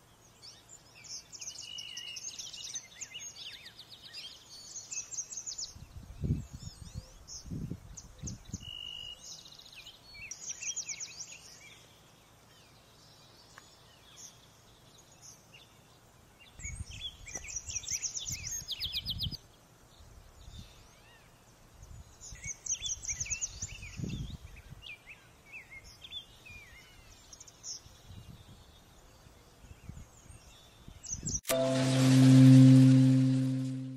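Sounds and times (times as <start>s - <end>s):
small birds chirping and singing: 0.1s - 31.4s.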